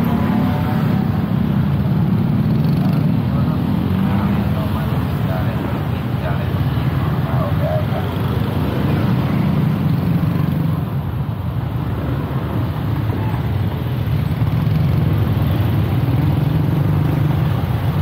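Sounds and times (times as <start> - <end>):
motorcycle traffic engine hum: 0.0 - 18.0.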